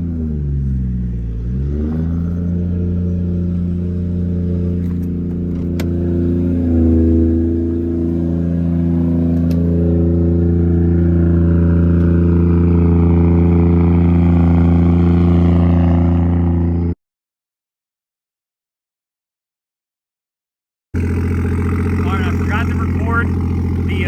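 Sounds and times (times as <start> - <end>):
car engine idling loud drone: 0.0 - 17.0, 21.0 - 24.0.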